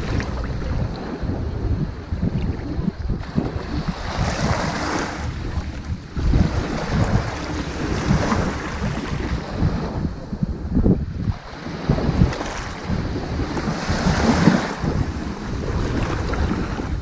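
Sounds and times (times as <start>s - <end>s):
waves washing up a beach: 0.0s - 17.0s
wind buffeting microphone: 0.0s - 17.0s.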